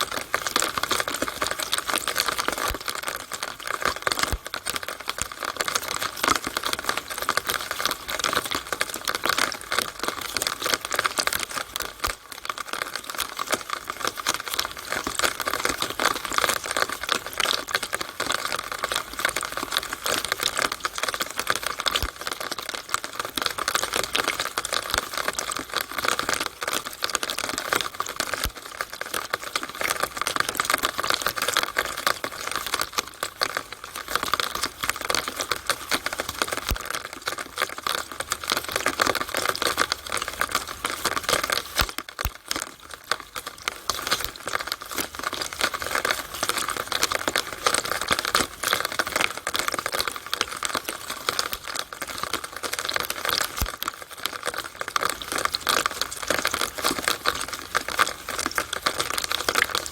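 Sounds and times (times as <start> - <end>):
rainwater dripping in downspout: 0.0 - 59.9.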